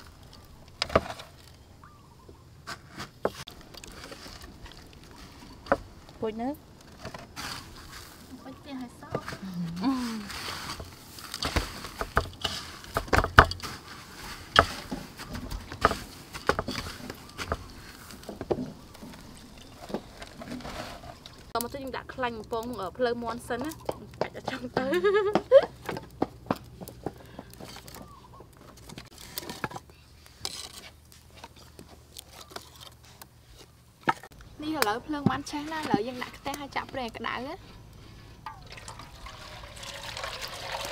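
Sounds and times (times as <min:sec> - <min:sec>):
fire crackling: 0:00.0 - 0:01.9, 0:02.5 - 0:40.9.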